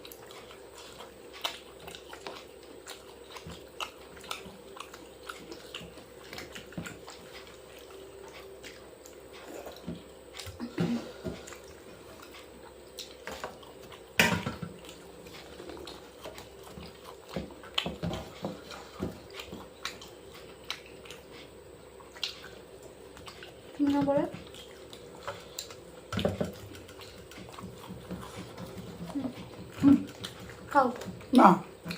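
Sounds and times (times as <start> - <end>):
people chewing: 0.0 - 31.9.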